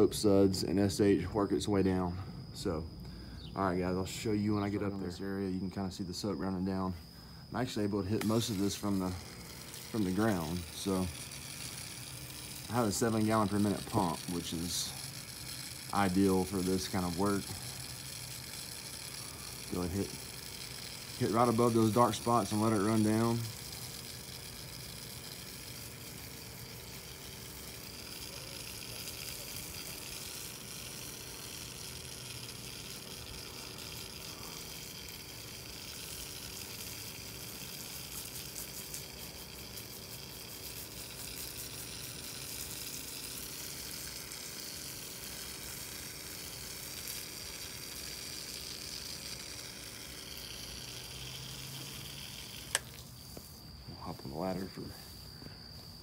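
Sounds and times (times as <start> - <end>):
spray hissing on roof shingles: 6.5 - 56.0.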